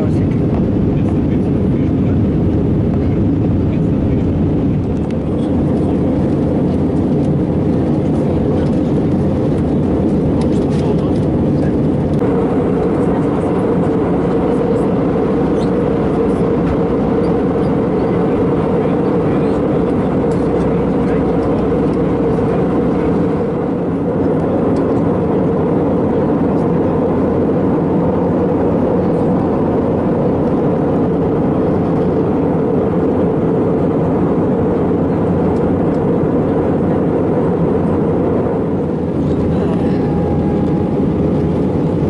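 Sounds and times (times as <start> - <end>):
jet engines in airliner cabin: 0.0 - 42.0.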